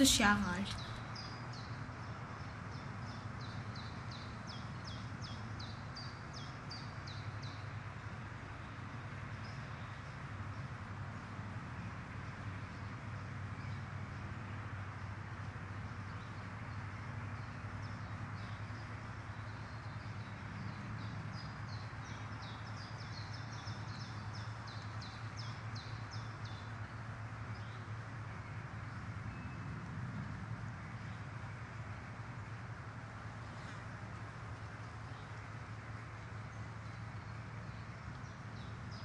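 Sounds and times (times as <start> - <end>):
steady low hum and hiss: 0.0 - 39.0.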